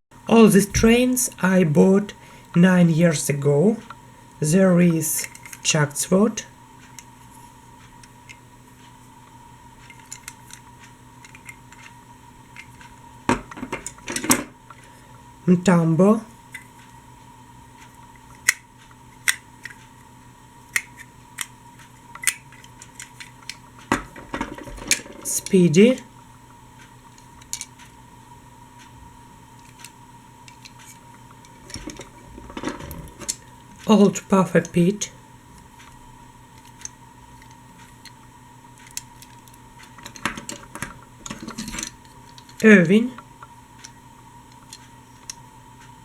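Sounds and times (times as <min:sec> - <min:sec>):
faint steady hum: 0:00.1 - 0:46.0.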